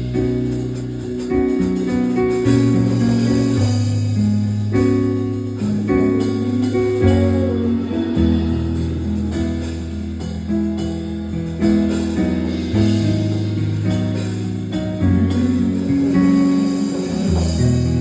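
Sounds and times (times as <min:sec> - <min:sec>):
instrumental worship music with guitar: 0:00.0 - 0:18.0.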